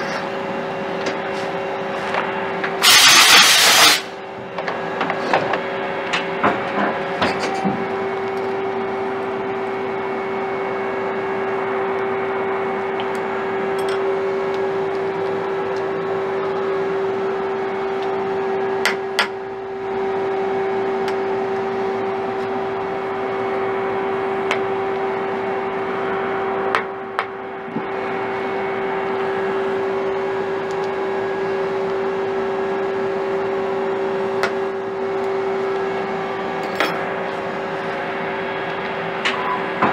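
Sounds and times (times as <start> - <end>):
machine hum with steady tone: 0.0 - 39.9.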